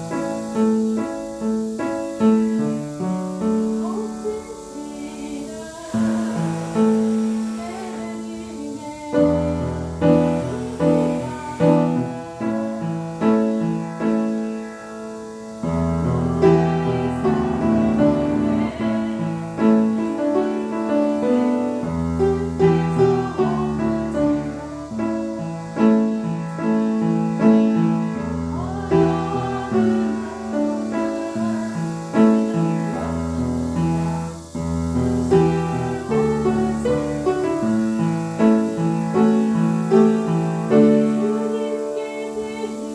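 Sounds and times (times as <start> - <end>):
piano playing slow chords: 0.0 - 42.9.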